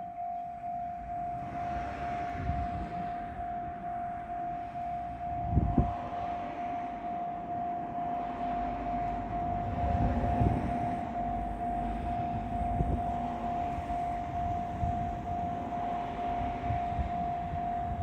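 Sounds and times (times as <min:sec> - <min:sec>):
freight train rumble: 0:00.0 - 0:18.0
level-crossing warning bell: 0:00.0 - 0:18.0.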